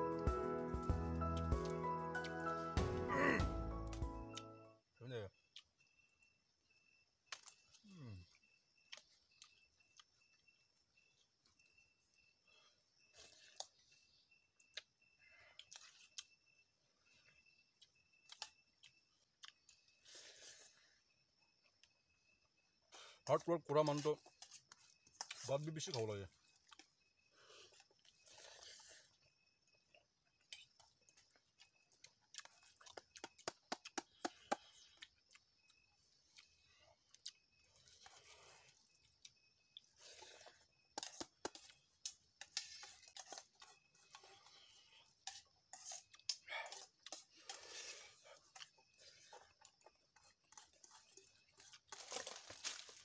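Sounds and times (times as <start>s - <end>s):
soft chewing: 7.3s - 23.3s, 23.9s - 53.0s.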